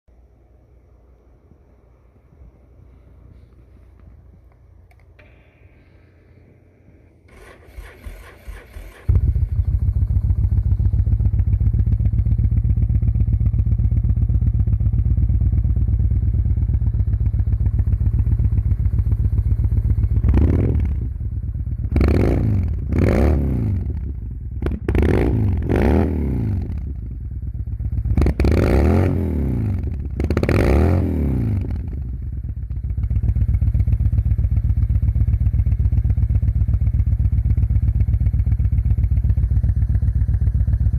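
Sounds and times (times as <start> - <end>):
motorcycle engine idling: 6.4 - 40.9
motorcycle engine revving: 7.3 - 40.9.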